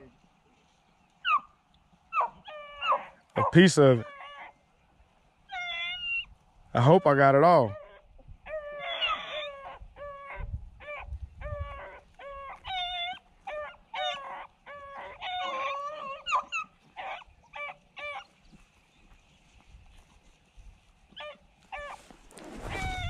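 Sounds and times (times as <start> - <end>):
hounds baying: 1.2 - 4.6, 5.5 - 20.2, 21.1 - 22.1.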